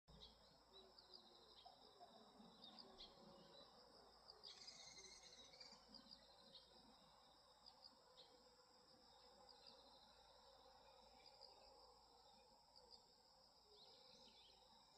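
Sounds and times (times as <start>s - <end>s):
crickets trilling and chirping: 0.1s - 14.9s.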